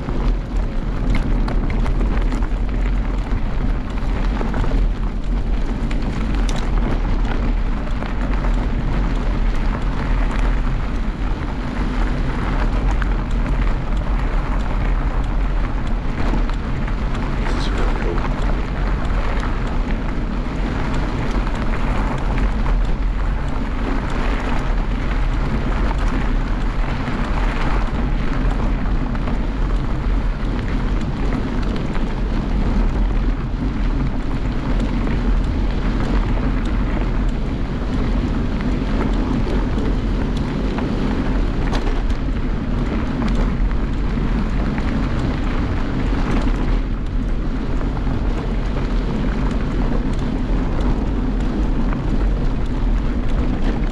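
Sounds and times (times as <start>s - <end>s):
wind noise on microphone: 0.0s - 53.9s.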